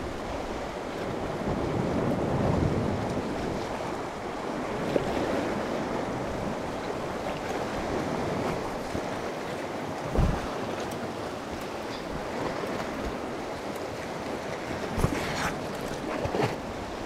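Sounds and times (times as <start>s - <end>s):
waves washing on rocky shore: 0.0s - 17.0s
wind buffeting microphone: 0.0s - 17.0s.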